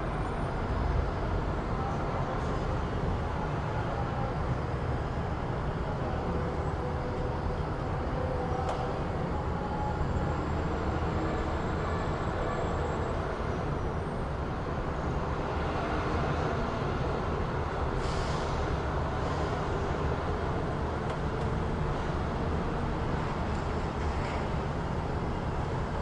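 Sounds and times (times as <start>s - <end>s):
vehicle traffic rumble: 0.0s - 26.0s.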